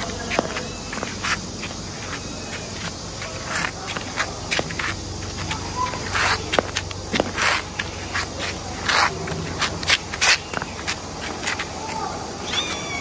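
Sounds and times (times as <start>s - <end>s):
footsteps scuffing on concrete: 0.0s - 13.0s.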